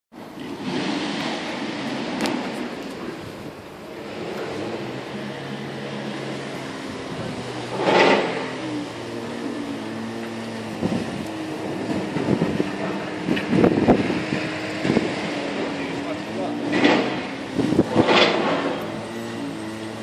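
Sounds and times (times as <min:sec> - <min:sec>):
engine humming: 0:00.2 - 0:20.0
loud rush: 0:00.5 - 0:20.0.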